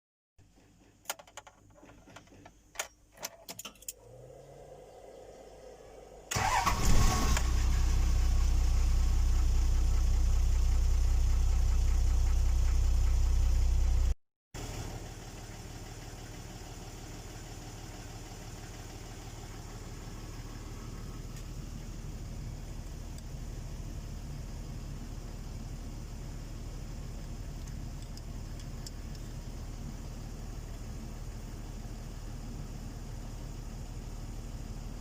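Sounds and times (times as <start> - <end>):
car engine starting and idling: 3.7 - 35.0.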